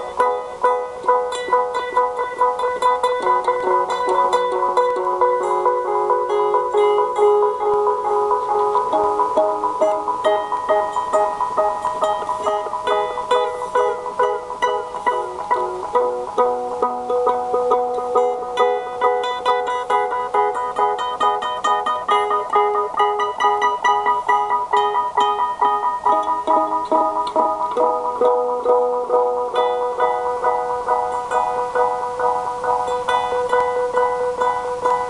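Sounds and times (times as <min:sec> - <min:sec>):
plucked string notes with delay: 0:00.0 - 0:35.0.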